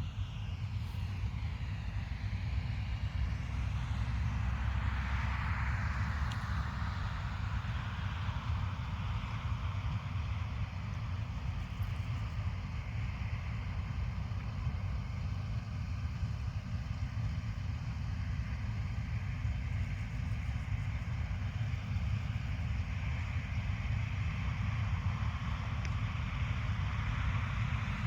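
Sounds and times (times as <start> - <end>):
combine harvester engine drone: 0.0 - 28.0.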